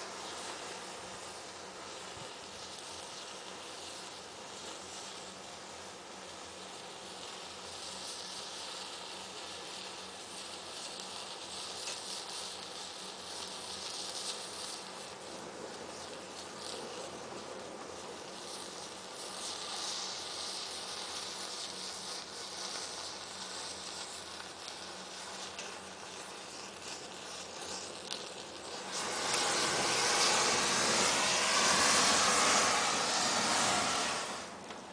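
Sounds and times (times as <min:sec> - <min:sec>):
matches igniting hiss and crackle: 0:00.0 - 0:34.9.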